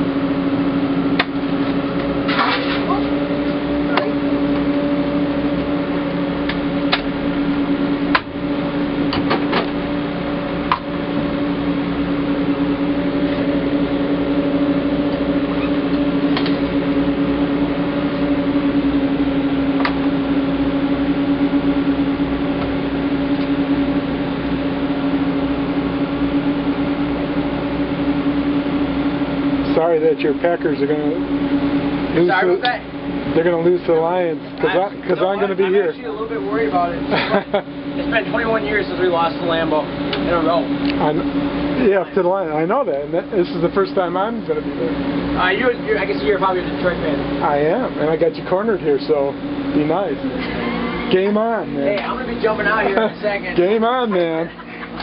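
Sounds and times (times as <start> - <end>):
mechanical hum of drive machinery: 0.0 - 55.0.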